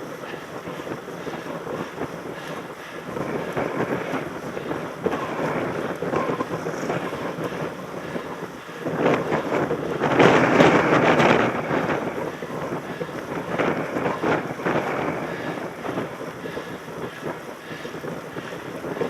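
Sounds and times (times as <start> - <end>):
bike rattling over rough ground: 0.0 - 19.0
wind buffeting microphone: 0.0 - 19.0.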